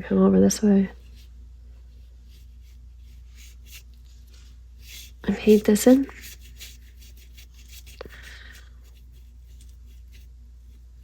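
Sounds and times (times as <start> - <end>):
paintbrush stroking on paper: 1.0 - 11.0.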